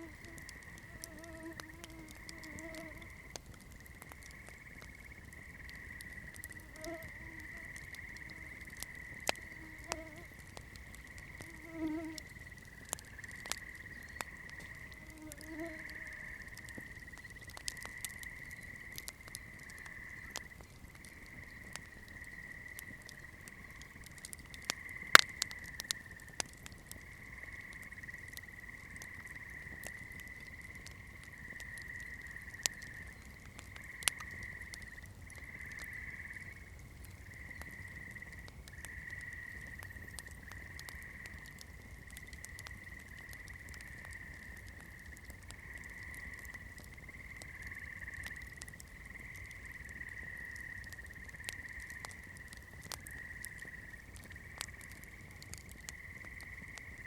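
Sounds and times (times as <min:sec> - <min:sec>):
campfire wood crackling: 0:00.0 - 0:57.0.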